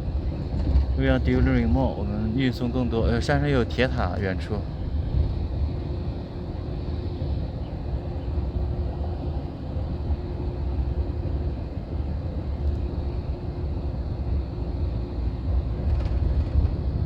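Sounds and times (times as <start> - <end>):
bus engine and tyres rumbling: 0.0 - 17.0.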